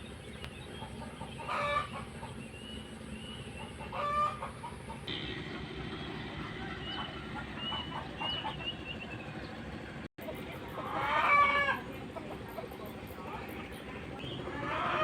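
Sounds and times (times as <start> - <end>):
chickens clucking: 0.6 - 2.6, 3.5 - 15.0.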